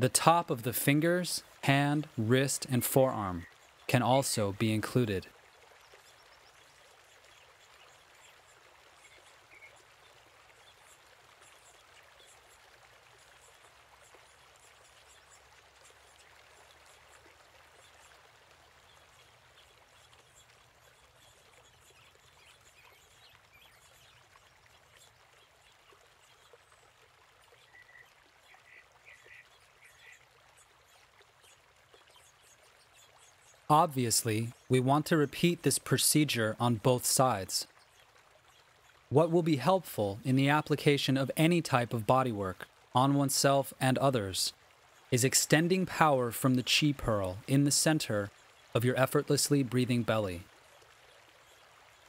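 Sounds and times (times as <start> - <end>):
faint steady hiss: 0.0 - 52.0.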